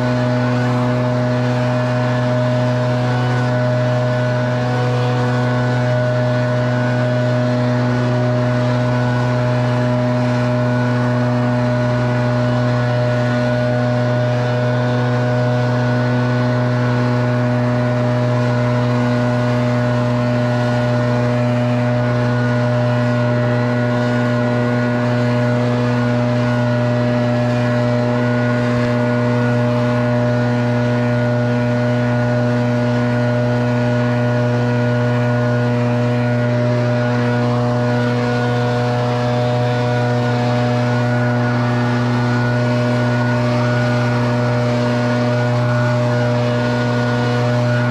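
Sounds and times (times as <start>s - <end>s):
leaf blower running: 0.0s - 47.9s.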